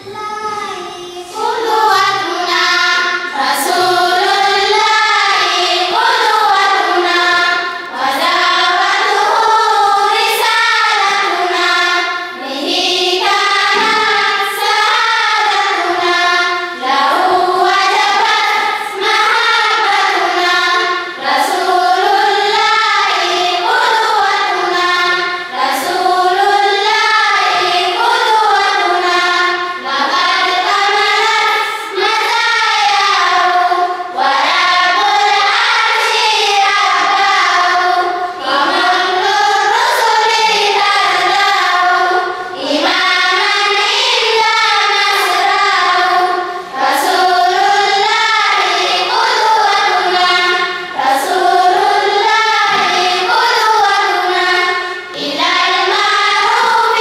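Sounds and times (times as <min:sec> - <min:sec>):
group of students singing: 0:00.0 - 0:57.0.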